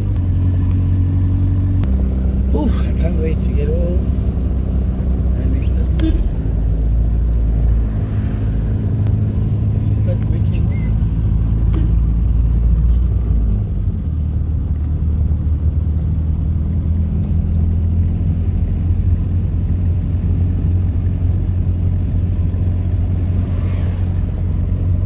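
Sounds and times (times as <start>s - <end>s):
car engine and road noise drone: 0.0s - 25.0s.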